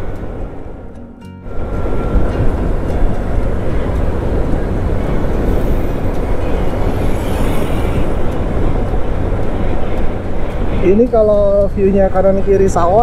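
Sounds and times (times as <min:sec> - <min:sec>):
motorcycle engine and road noise: 0:00.0 - 0:13.0
rushing wind: 0:00.0 - 0:13.0.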